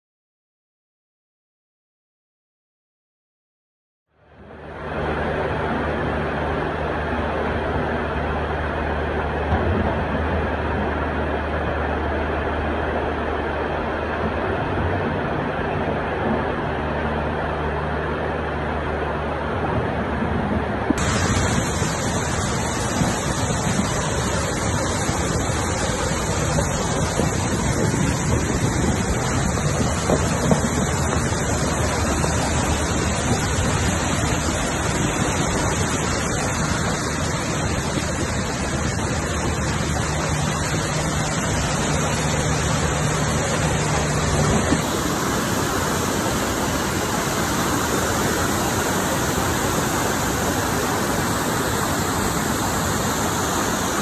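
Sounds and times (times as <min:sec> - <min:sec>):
low steady hum: 0:04.2 - 0:54.0
water cascading down a gully: 0:04.2 - 0:54.0
floodwater rushing: 0:04.4 - 0:54.0.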